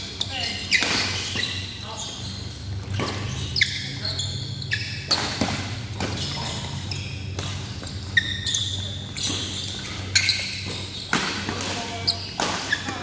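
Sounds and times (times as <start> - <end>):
shoes squeaking on court: 0.0 - 13.0.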